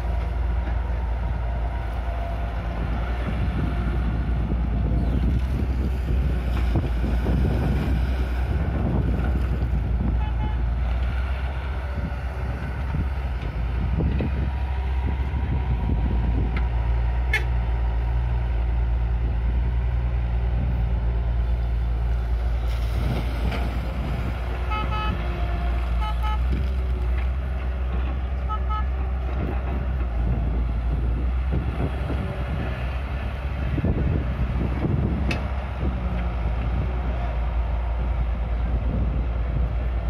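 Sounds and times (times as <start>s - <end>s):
diesel engines rumbling: 0.0s - 40.0s.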